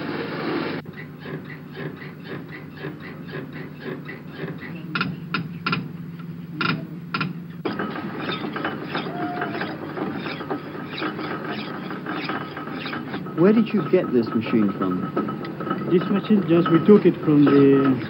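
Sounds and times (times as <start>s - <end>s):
metal lathe turning: 0.8s - 6.4s, 7.0s - 18.0s
machinery clacking: 0.8s - 18.0s
sharp metallic clanks: 1.0s - 18.0s.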